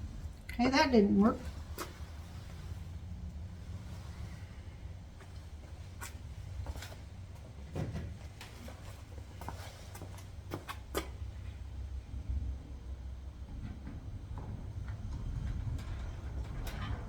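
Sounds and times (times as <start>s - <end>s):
steady low rumble: 0.0s - 10.5s, 11.1s - 17.0s.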